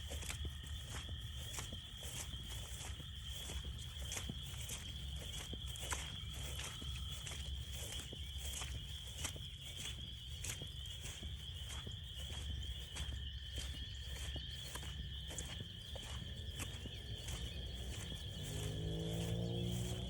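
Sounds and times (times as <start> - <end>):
footsteps on a trail: 0.0 - 20.0.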